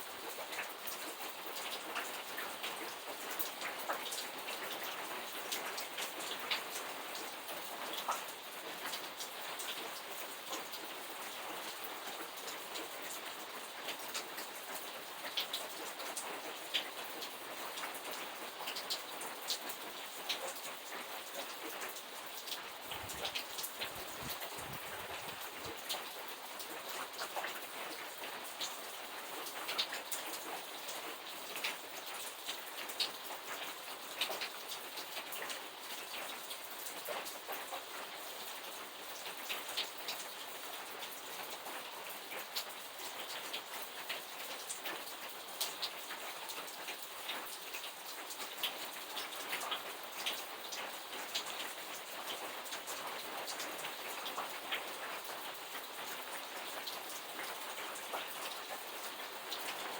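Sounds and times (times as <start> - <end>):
steady rain falling: 0.0 - 59.9
raindrops ticking on hard surface: 0.2 - 59.9.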